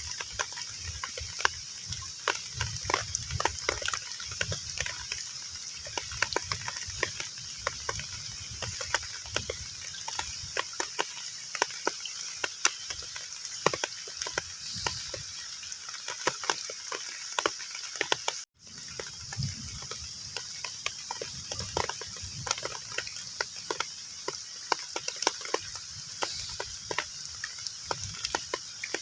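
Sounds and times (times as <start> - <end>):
heavy rain on water: 0.0 - 29.0.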